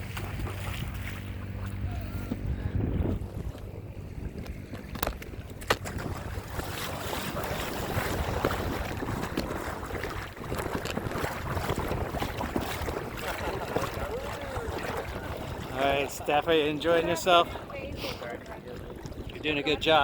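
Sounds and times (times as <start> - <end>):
water lapping and splashing: 0.0 - 20.0
wind buffeting microphone: 0.0 - 20.0.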